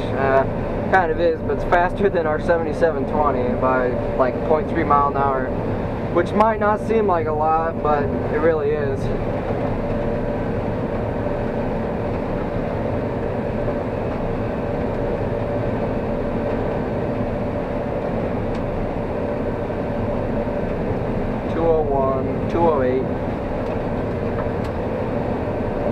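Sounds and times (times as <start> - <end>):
combine harvester engine drone: 0.0 - 25.9.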